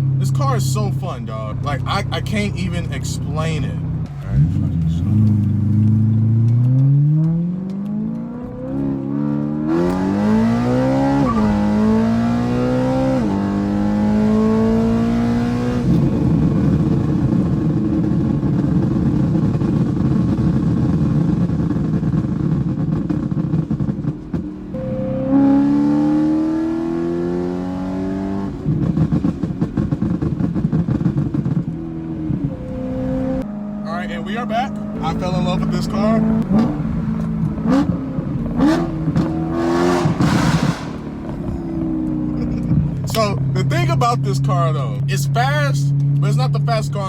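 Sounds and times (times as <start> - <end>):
car engine revving: 0.0 - 47.0
exhaust crackling and popping: 0.0 - 47.0.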